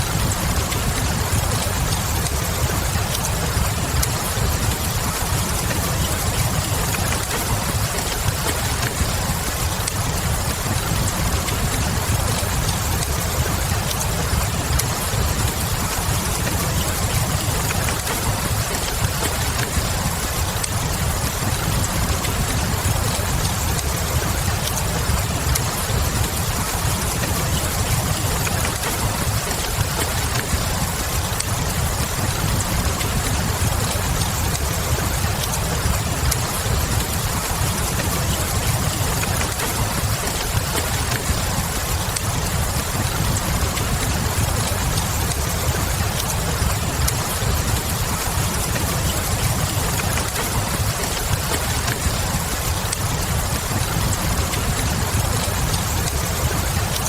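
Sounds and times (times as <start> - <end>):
burning logs crackling: 0.0 - 57.0
steady rain hiss: 0.0 - 57.0.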